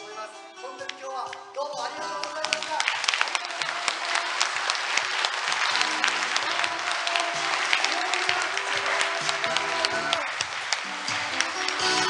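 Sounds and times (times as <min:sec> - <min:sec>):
music playing: 0:00.0 - 0:12.0
audience applauding: 0:01.9 - 0:12.0.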